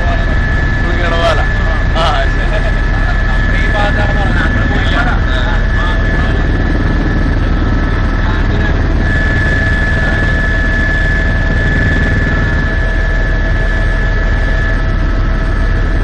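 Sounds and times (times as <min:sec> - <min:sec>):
helicopter engine whine: 0:00.0 - 0:16.0
helicopter rotor beat: 0:00.0 - 0:16.0.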